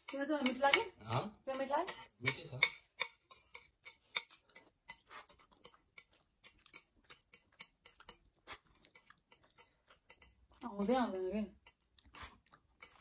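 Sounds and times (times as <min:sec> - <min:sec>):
metal chopsticks clicking on plates: 0:00.0 - 0:13.0.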